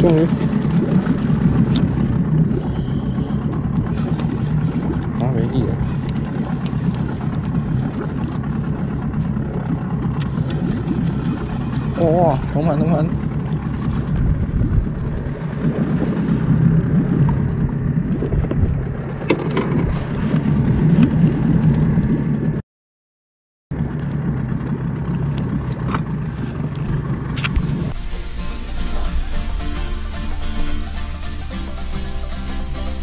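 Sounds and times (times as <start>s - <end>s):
boat engine low rumble: 0.0s - 22.6s, 23.7s - 33.0s.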